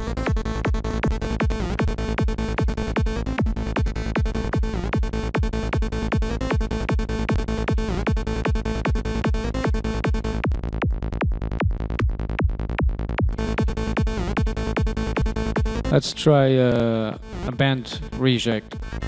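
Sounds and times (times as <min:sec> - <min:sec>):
four-on-the-floor kick drum: 0:00.0 - 0:15.9
electronic psytrance loop: 0:00.0 - 0:19.0
percussive synth lead: 0:00.0 - 0:19.0
rolling bass: 0:00.0 - 0:19.0.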